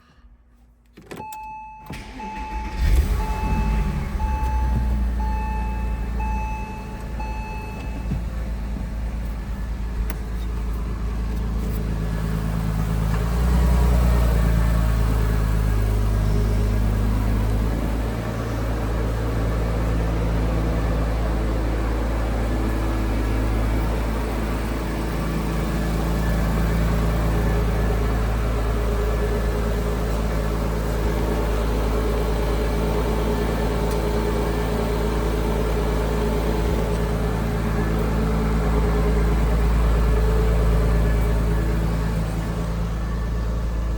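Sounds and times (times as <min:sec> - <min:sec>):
car engine idling: 0:01.9 - 0:43.9.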